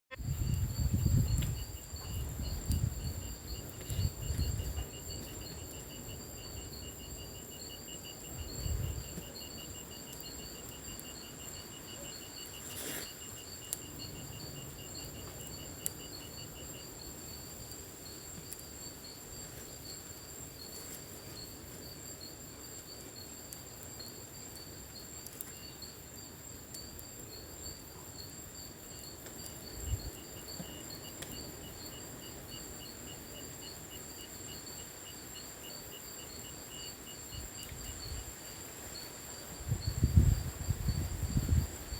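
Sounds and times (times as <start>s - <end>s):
pulsing insect trill: 0.1s - 41.9s
rapid insect chirping: 0.1s - 41.9s
steady high insect trill: 0.1s - 41.9s.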